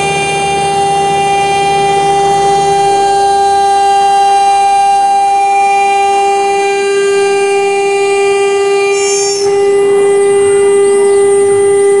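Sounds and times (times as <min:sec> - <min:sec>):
cutting noise: 0:00.0 - 0:12.0
router spindle high-pitched whine: 0:00.0 - 0:12.0.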